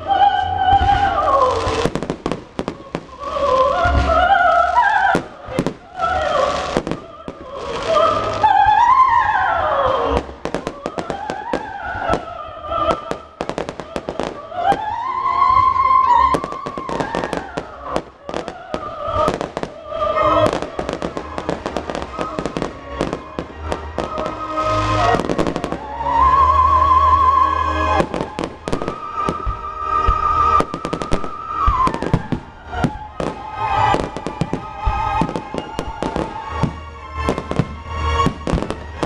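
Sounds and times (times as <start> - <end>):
music with gliding notes: 0.0 - 39.0
fireworks bangs and crackling: 0.6 - 39.0.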